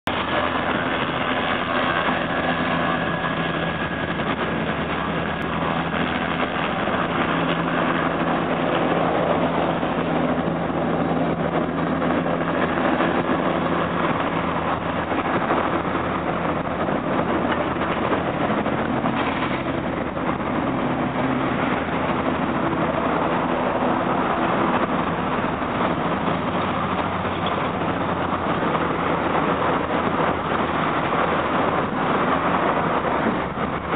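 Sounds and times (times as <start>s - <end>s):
car engines humming: 0.0s - 33.9s.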